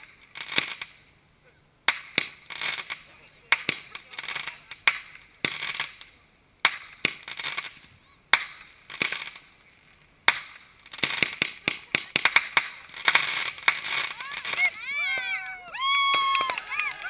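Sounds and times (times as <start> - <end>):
crackling firework pops: 0.0 - 1.1, 1.8 - 15.4
fireworks bangs: 1.9 - 17.0.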